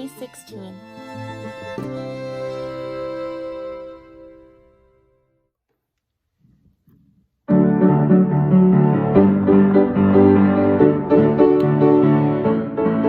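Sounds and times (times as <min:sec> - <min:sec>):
piano playing chords: 0:00.0 - 0:05.4, 0:07.5 - 0:13.0.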